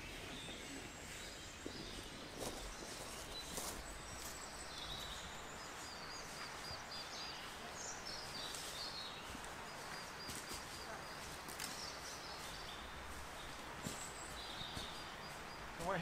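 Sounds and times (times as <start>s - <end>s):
birds singing and calling: 0.0s - 16.0s
faint outdoor background: 0.0s - 16.0s.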